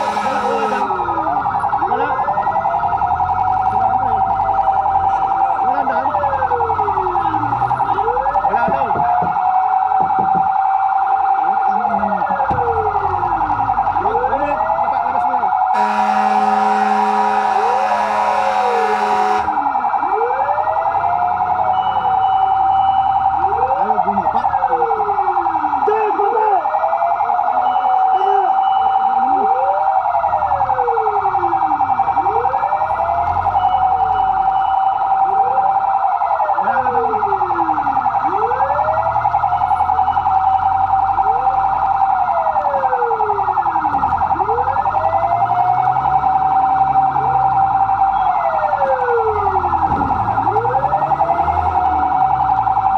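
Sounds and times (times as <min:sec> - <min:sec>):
fire truck siren wailing: 0:00.0 - 0:52.9.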